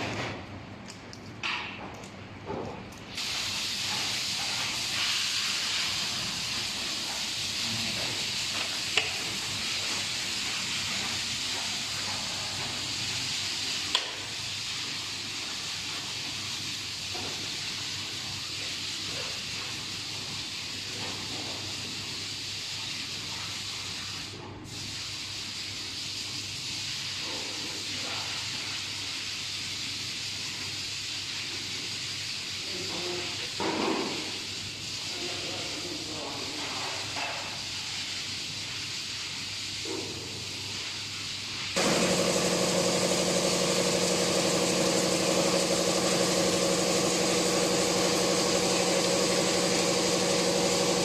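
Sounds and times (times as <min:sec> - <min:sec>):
steady hiss: 0:03.2 - 0:45.1.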